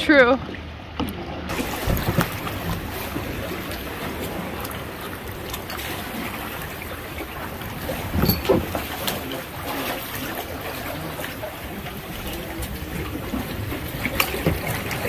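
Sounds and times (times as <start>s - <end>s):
kayak paddles splashing water: 0.0s - 15.0s
water trickling off blades: 1.5s - 15.0s.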